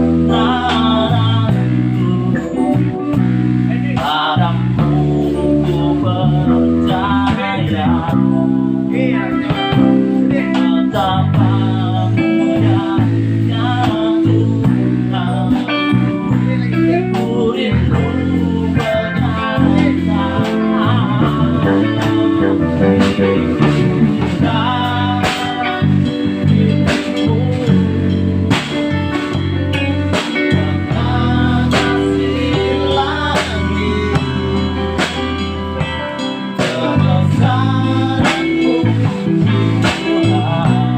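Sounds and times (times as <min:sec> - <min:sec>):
guitar melody with bending notes: 0:00.0 - 0:40.9
rock band playing: 0:00.0 - 0:40.9.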